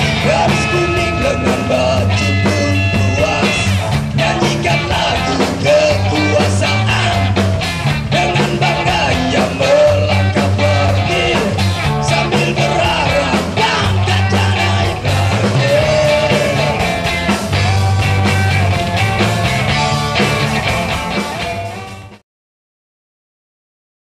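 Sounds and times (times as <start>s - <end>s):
live band playing: 0.0s - 22.2s.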